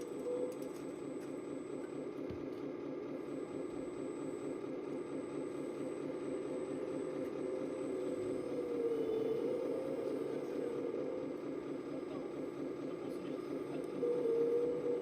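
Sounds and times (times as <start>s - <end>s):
model truck motor humming: 0.0s - 15.0s.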